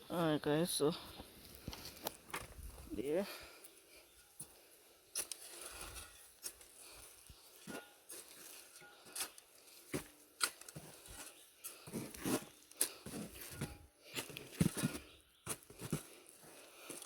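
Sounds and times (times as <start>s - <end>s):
soil crunching and scraping: 1.1s - 17.0s.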